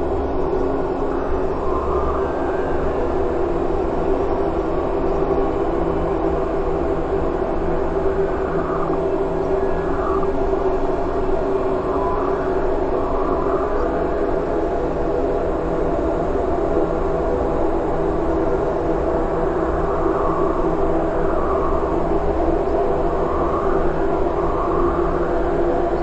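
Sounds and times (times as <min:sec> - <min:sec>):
distorted noise drone: 0:00.0 - 0:26.0.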